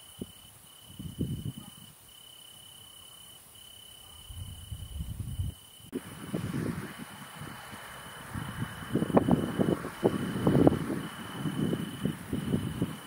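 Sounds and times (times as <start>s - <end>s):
crickets trilling: 0.0s - 13.0s
steady hiss: 1.9s - 13.0s.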